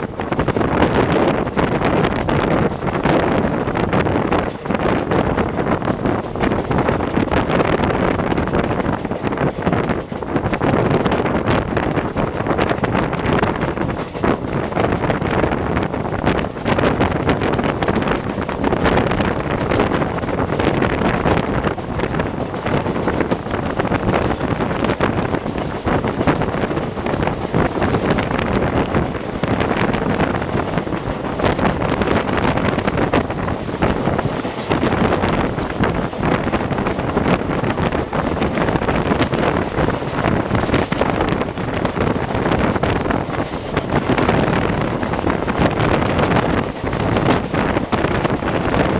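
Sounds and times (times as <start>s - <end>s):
train rumbling on rails: 0.0s - 48.9s
wind buffeting microphone: 0.0s - 48.9s.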